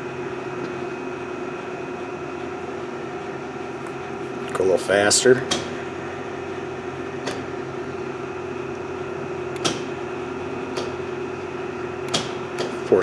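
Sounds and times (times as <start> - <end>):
lathe motor and spindle hum: 0.0 - 13.0.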